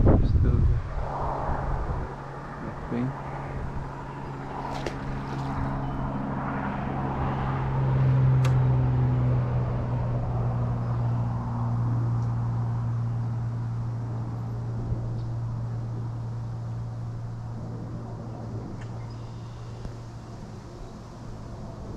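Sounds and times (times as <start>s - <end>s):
motor engine droning: 0.0s - 21.9s.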